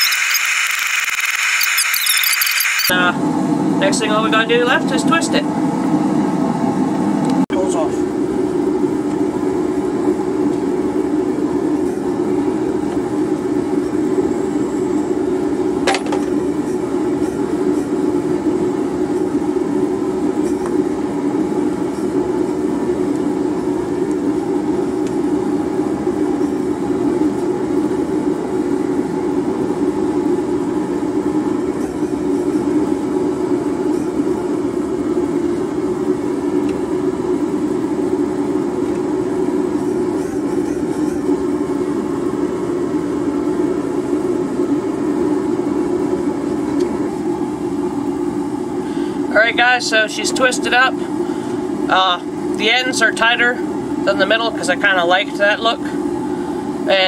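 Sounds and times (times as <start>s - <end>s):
steady machine roar: 0.0s - 57.0s.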